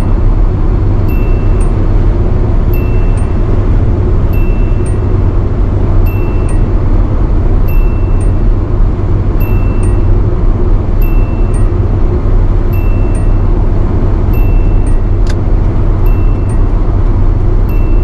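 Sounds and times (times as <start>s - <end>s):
car speed warning chime: 0.0s - 18.0s
engine and road noise: 0.0s - 18.0s.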